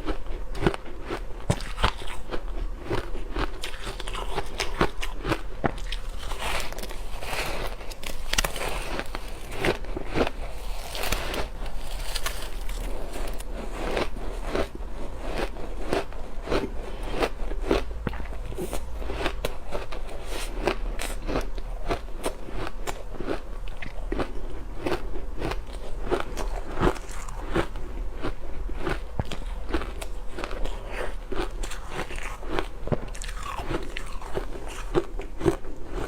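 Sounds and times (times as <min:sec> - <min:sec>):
ice crunching while chewed: 0:00.0 - 0:36.0.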